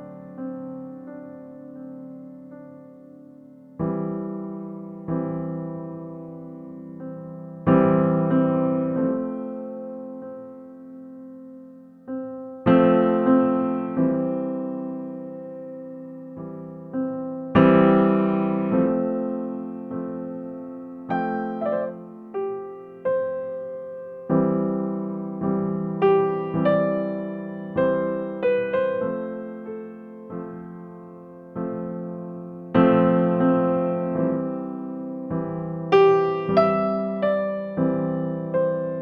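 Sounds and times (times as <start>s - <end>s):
slow soft piano: 0.0s - 39.0s.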